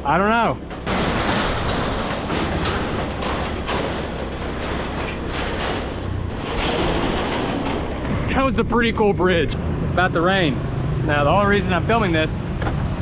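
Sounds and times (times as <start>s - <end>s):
road noise rumble: 0.0s - 13.0s
wind: 0.0s - 13.0s.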